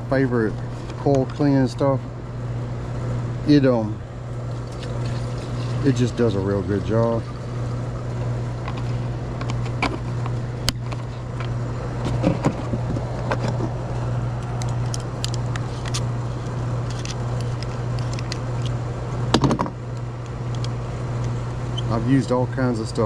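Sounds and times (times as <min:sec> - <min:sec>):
heat pump humming: 0:00.0 - 0:23.0.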